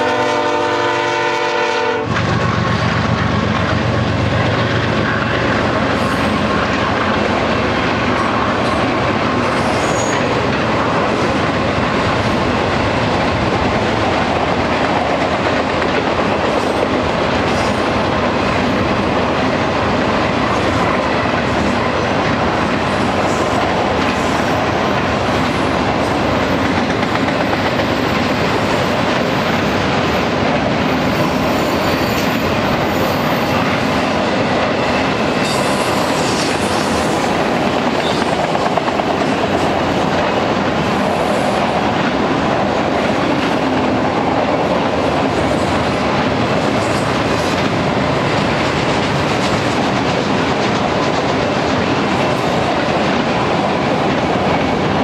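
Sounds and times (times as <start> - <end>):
freight train rumbling past: 0.0 - 55.0
train wheels clattering on rails: 0.0 - 55.0.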